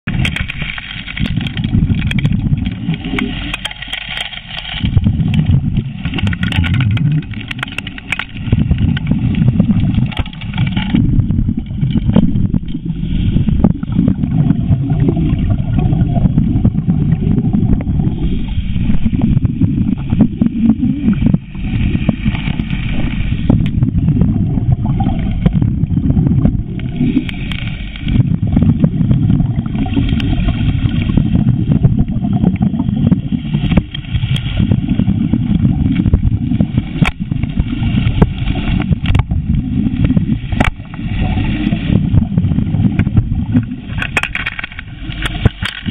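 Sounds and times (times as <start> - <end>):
underwater dredge rumble: 0.0 - 45.9.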